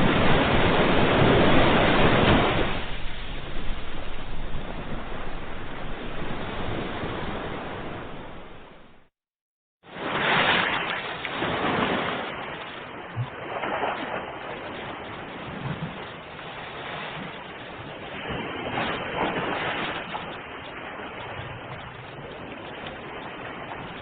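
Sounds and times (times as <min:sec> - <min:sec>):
ocean surf washing: 0:00.0 - 0:09.1, 0:09.9 - 0:24.0.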